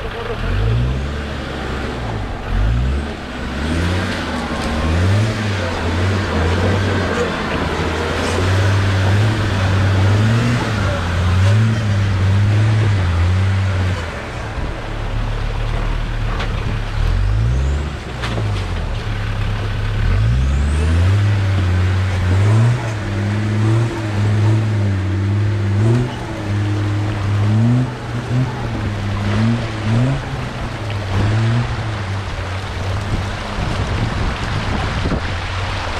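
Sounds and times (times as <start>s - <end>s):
engine revving: 0.0s - 35.9s
water rushing: 0.0s - 35.9s.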